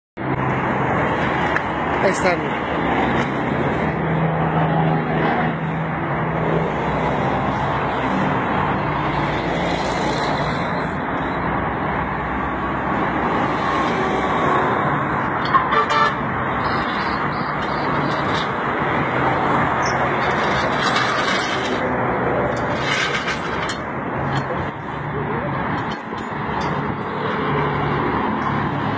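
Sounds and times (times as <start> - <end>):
road traffic noise: 0.2 - 28.9.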